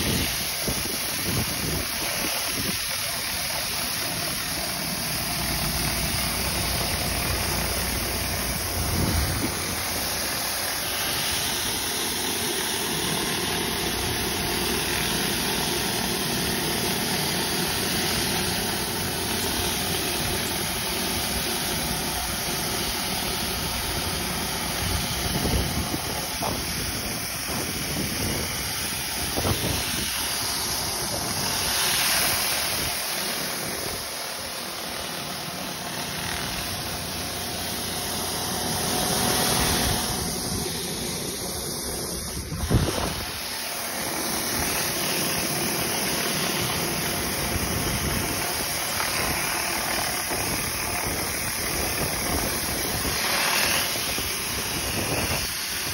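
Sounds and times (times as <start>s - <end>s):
high-pressure water jets hissing: 0.0s - 55.9s
pressure washer engine: 0.0s - 55.9s.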